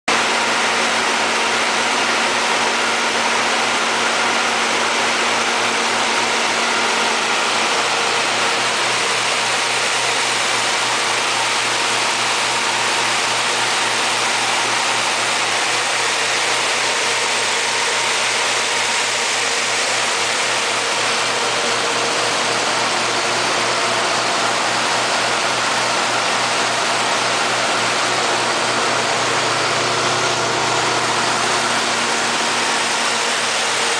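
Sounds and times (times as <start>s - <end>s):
generator engine droning: 0.1s - 33.9s.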